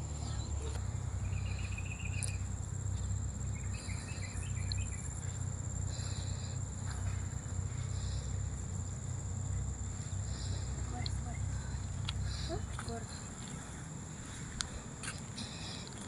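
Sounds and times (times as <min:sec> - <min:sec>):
insect high-pitched drone: 0:00.0 - 0:16.0.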